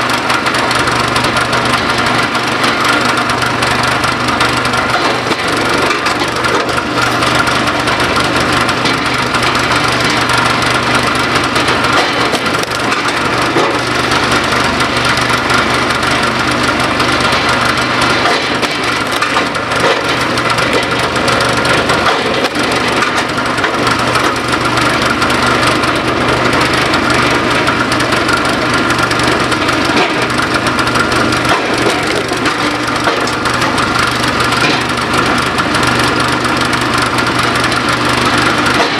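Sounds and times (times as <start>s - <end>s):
log splitter engine running: 0.0s - 38.9s.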